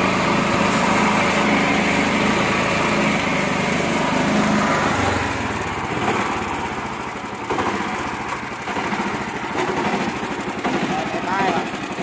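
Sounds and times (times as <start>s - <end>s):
small tractor engine running: 0.0s - 12.0s.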